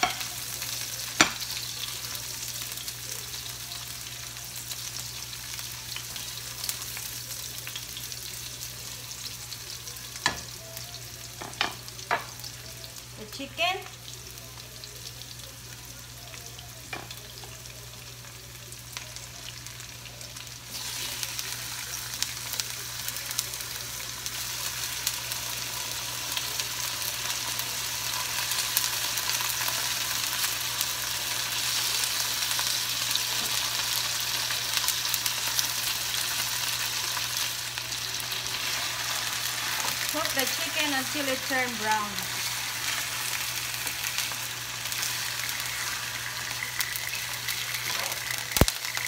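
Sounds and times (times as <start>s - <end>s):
chicken sizzling in a frying pan: 0.0s - 49.0s.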